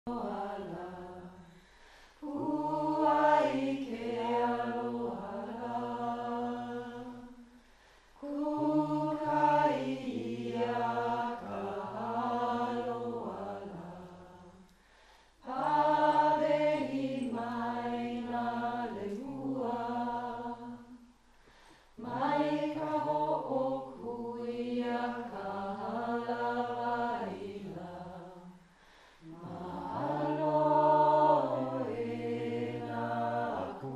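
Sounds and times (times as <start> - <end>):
person chanting: 2.2 - 7.4, 8.2 - 14.6, 15.4 - 20.9, 22.0 - 28.6, 29.2 - 33.9.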